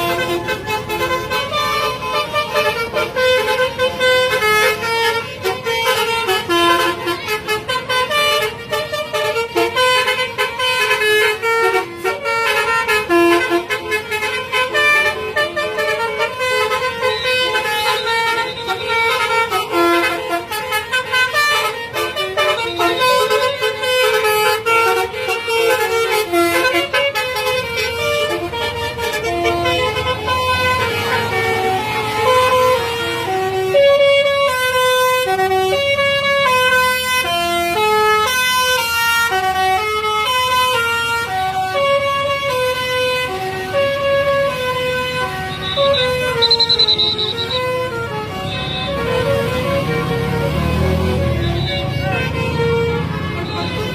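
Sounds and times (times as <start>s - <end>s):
musical bus air horn playing a tune: 0.0s - 53.9s.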